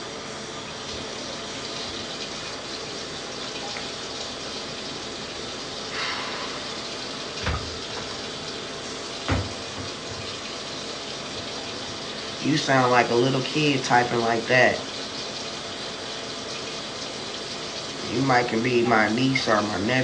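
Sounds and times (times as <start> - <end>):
water running from a tap: 0.0 - 20.0.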